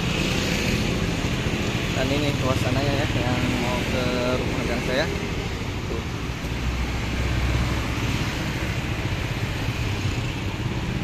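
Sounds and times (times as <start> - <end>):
motorcycles passing: 0.0 - 11.0.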